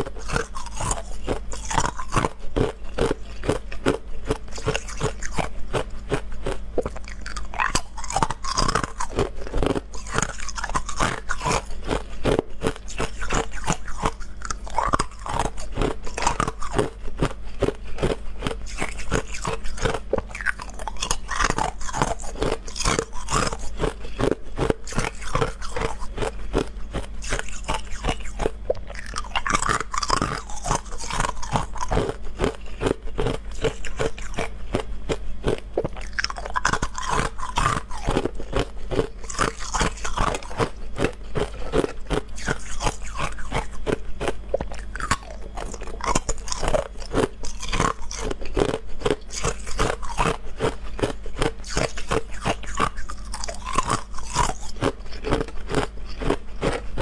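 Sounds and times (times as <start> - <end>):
ice cubes being chewed: 0.0 - 57.0.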